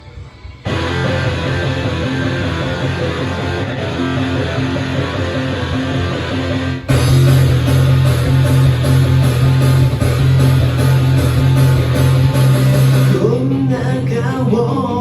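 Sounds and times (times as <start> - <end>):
rock guitar riff: 0.6 - 15.0.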